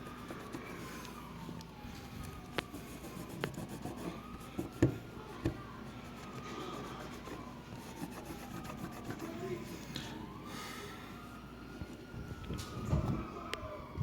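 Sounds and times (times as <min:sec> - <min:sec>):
faint siren wailing: 0:00.0 - 0:14.0.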